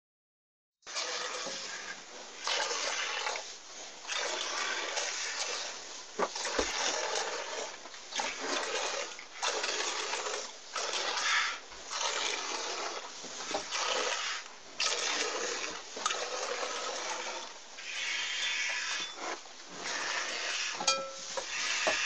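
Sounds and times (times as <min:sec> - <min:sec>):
milk squirting into pail: 0:00.9 - 0:20.8.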